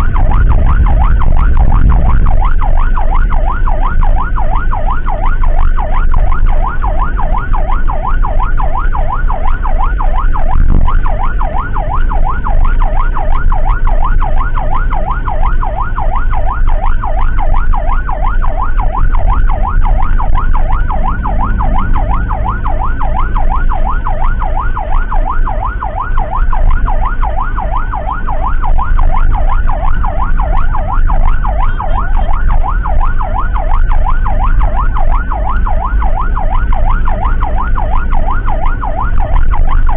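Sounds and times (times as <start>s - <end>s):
low rumble of vehicle on road: 0.0s - 39.9s
siren in fast yelp: 0.0s - 39.9s.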